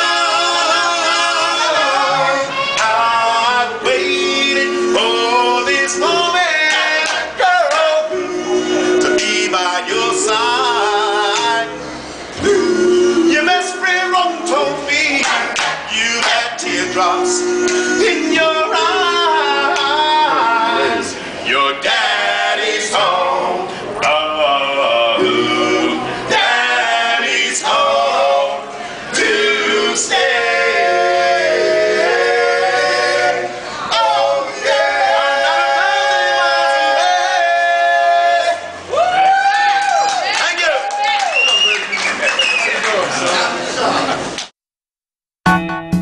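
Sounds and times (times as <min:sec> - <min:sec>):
men singing a cappella: 0:00.0 - 0:39.0.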